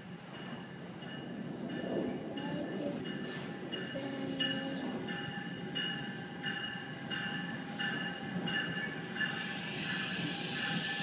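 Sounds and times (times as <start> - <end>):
train low rumble: 0.0 - 11.0
high pulsing ringing tone: 0.3 - 11.0.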